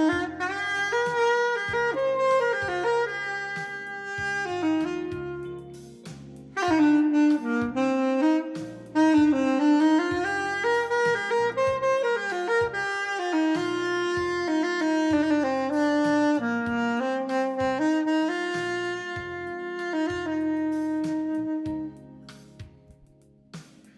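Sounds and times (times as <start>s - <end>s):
stepping bass line: 0.0s - 22.9s
sustained lead melody: 0.0s - 23.2s.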